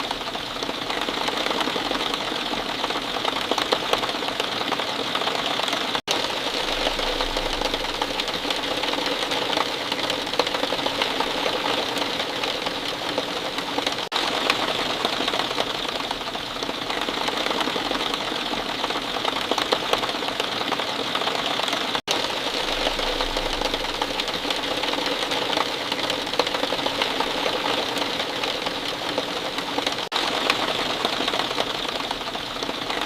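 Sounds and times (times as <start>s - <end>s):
steady rainfall: 0.0s - 33.0s.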